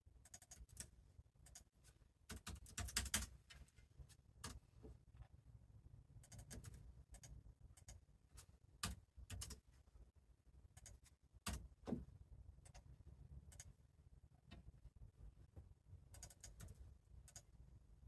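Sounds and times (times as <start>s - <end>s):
low steady hum: 3.3s - 18.0s.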